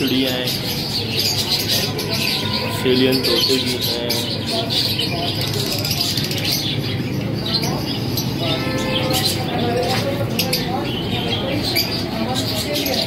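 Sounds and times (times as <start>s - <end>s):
budgerigars chirping: 0.0s - 13.0s
people's voices: 0.0s - 13.0s.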